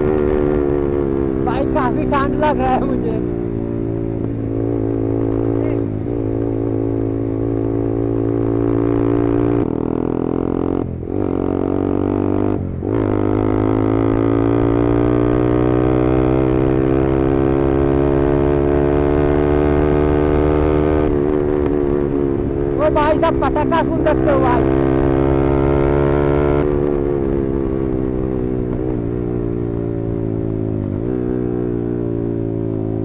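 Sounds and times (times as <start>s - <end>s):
motorcycle engine: 0.0s - 33.0s.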